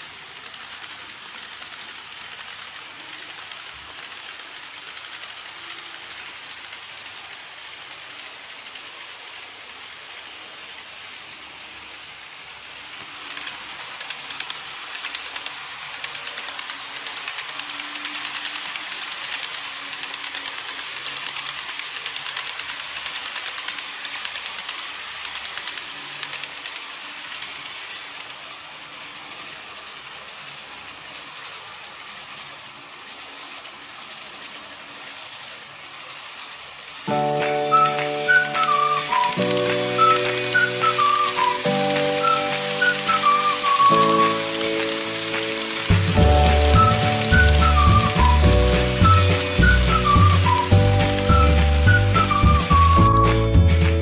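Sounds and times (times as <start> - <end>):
model train wheels clicking on rails: 0.0 - 54.0.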